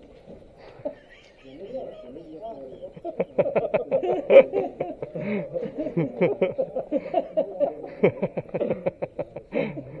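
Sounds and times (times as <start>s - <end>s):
chatter: 0.0s - 10.0s
men laughing: 0.6s - 10.0s.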